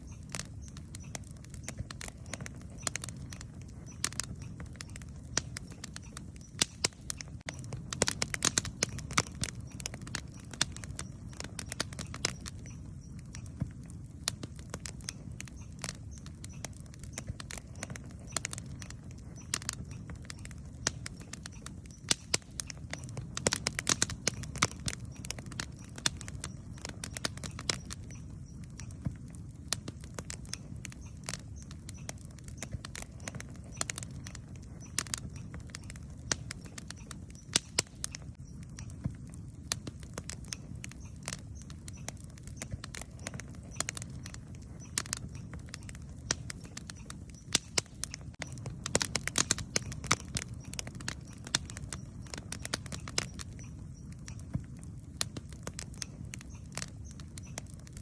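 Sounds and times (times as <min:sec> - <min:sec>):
campfire wood popping and snapping: 0:00.0 - 0:58.0
low fire rumble: 0:00.0 - 0:58.0.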